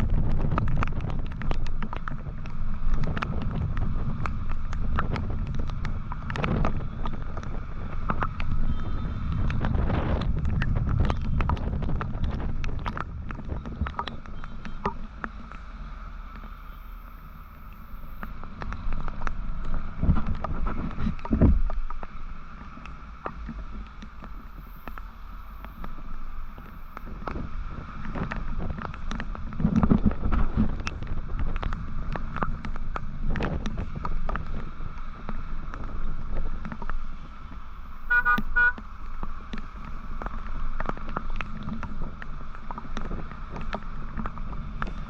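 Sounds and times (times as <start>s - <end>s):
motorcycle road and engine rumble: 0.0s - 45.0s
wind rushing over microphone: 0.0s - 45.0s.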